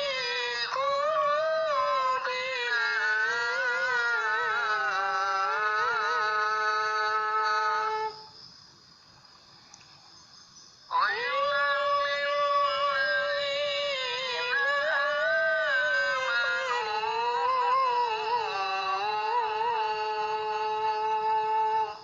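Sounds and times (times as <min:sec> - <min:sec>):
high voice singing: 0:00.0 - 0:08.2, 0:10.9 - 0:22.0.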